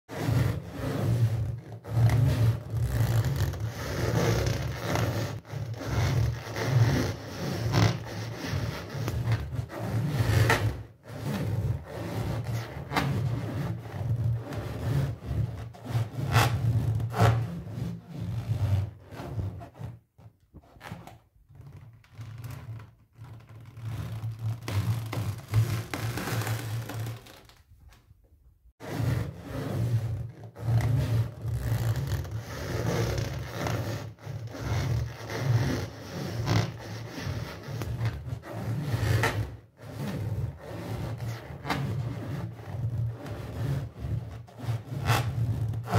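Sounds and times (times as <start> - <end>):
balloon rubber squeaking on tile: 0.1 - 27.7, 28.8 - 45.9.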